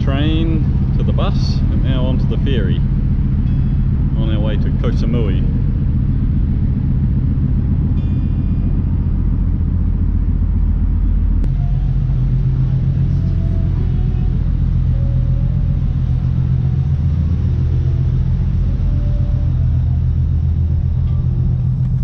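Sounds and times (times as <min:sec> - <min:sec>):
ferry engine rumbling: 0:00.0 - 0:22.0.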